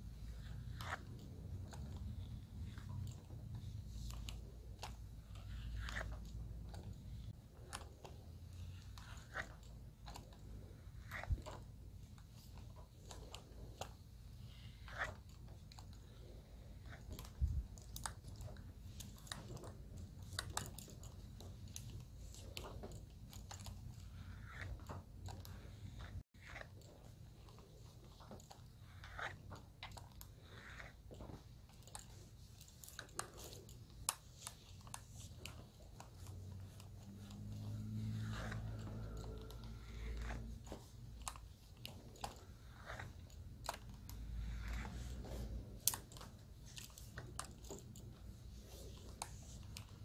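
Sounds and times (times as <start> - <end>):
small clicks and crackles: 0.0 - 50.0.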